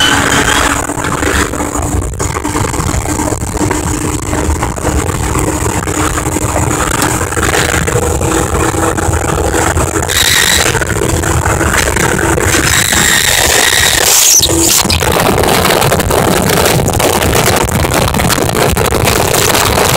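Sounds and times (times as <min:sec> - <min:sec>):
outboard motor running: 0:00.0 - 0:19.9
wind and water rushing: 0:00.0 - 0:19.9.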